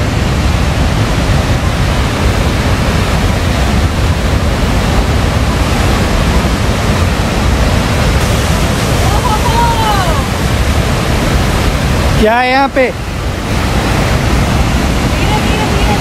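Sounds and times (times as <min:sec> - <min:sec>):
rushing white water: 0:00.0 - 0:16.0.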